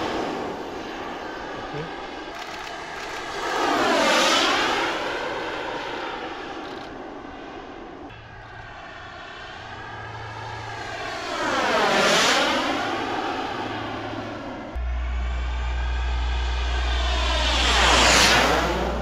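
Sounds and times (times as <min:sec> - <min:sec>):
model jet flying past: 0:00.0 - 0:19.0.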